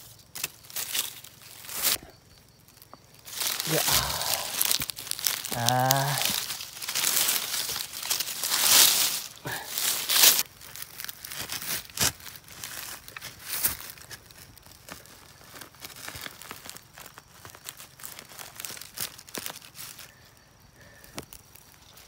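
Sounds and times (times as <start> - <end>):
dry leaves rustling and crackling: 0.0 - 22.0.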